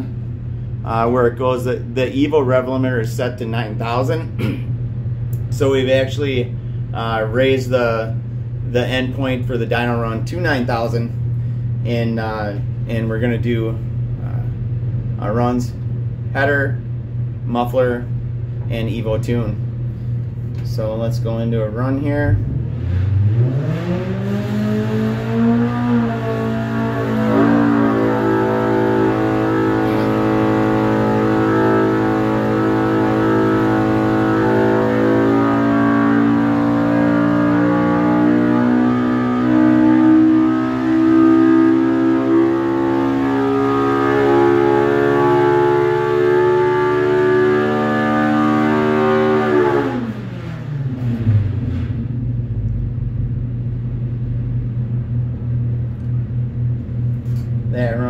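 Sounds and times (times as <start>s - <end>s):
engine revving under load: 0.0s - 58.0s.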